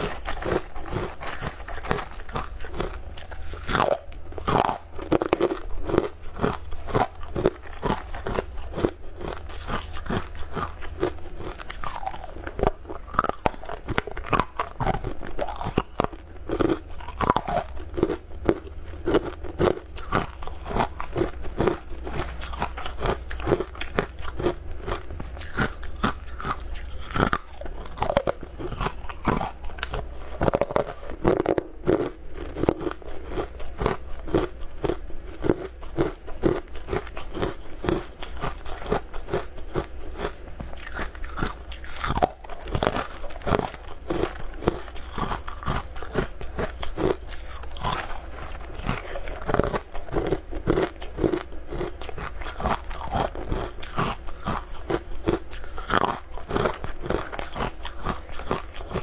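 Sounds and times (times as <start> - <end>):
crunching hard candy: 0.0 - 59.0.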